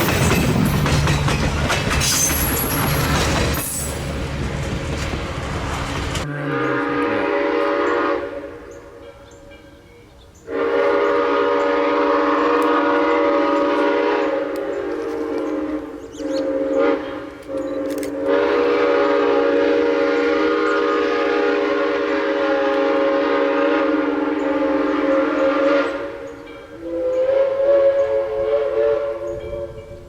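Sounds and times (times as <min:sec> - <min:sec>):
steam locomotive chime whistle: 0:02.0 - 0:04.2, 0:06.3 - 0:30.0.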